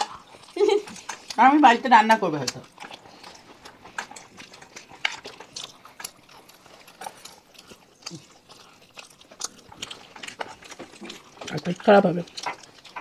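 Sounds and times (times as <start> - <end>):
wet chewing clicks and smacks: 0.0 - 13.0.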